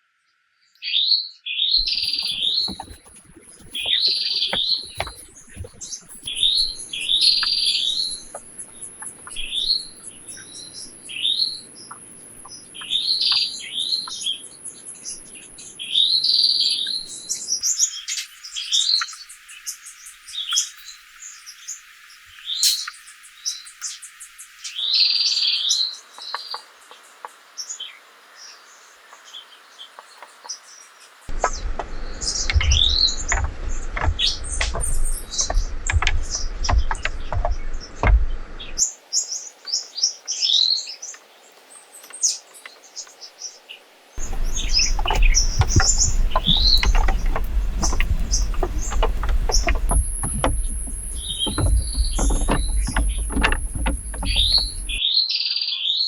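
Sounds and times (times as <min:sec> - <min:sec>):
small birds chirping: 0:00.7 - 0:56.0.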